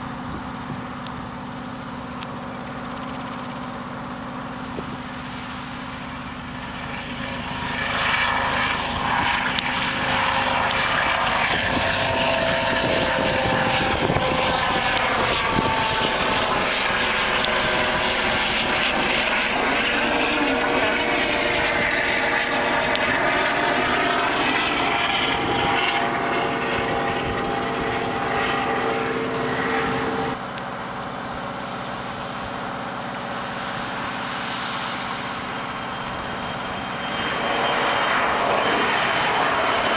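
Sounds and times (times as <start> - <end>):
aircraft passing low overhead: 0.0 - 39.9
airliner jet engine climbing: 0.0 - 39.9.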